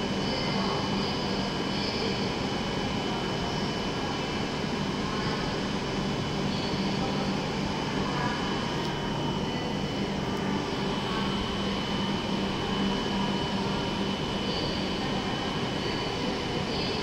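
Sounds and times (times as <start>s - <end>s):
faint high whine: 0.0s - 17.0s
idling trains humming: 0.0s - 17.0s.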